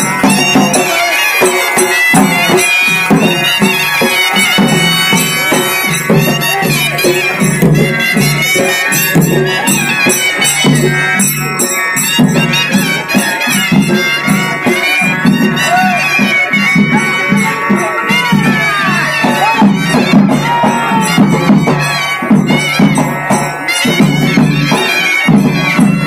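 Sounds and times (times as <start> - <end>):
clashing cymbals: 0.0 - 26.0
drum beat: 0.0 - 26.0
reedy pipe melody: 0.0 - 26.0.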